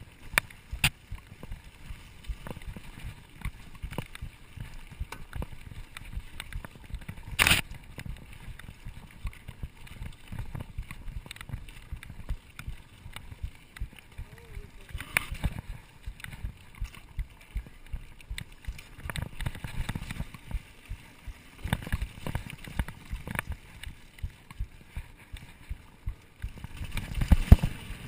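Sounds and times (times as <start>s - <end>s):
bike rattles and clicks: 0.0s - 28.0s
bike tyres rumbling on dirt: 0.0s - 28.0s.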